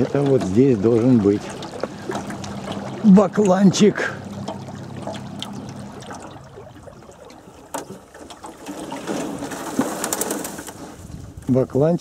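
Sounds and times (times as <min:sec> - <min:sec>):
water splashing around boat: 0:00.0 - 0:12.0.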